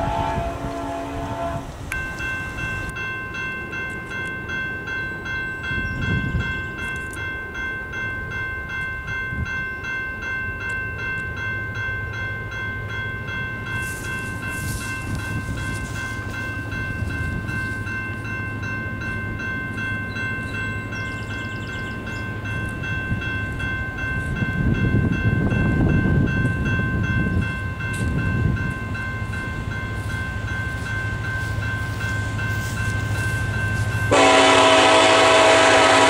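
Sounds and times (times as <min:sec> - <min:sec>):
level crossing bell ringing: 0:02.0 - 0:36.0.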